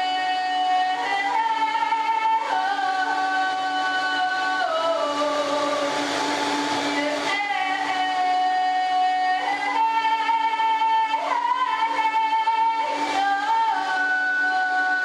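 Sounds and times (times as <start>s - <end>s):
blender whirring: 0.0s - 15.0s.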